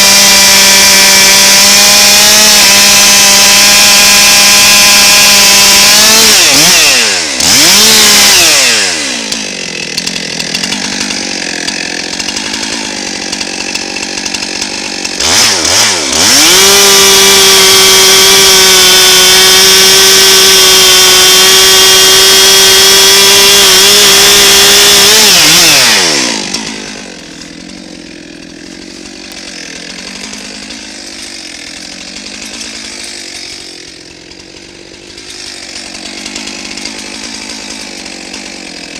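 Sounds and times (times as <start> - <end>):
two-stroke chainsaw revving: 0.0 - 38.9.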